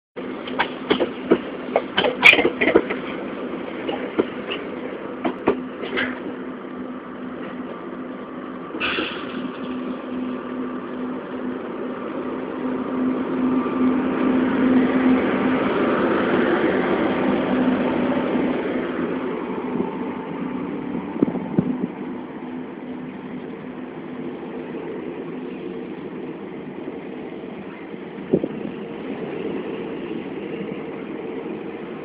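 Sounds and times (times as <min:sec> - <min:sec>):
electric locomotive hum: 0:00.2 - 0:32.0
train coaches rumbling past: 0:00.2 - 0:32.0.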